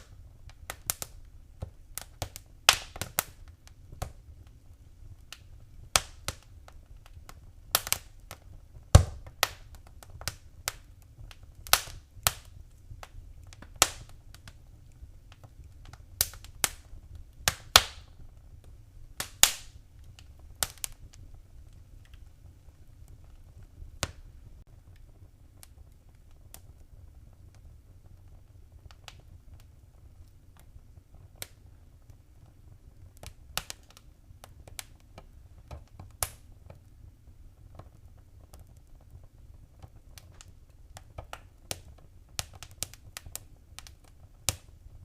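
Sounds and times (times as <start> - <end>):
fire pops and snaps: 0.0 - 45.0
low rumble of flame: 0.0 - 45.0.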